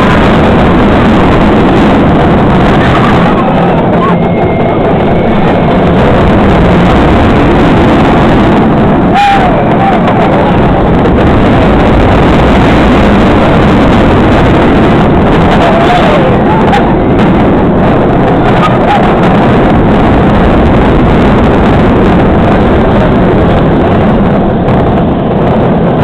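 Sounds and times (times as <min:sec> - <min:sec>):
roller coaster track roar: 0:00.0 - 0:26.0
rush of wind: 0:00.0 - 0:26.0.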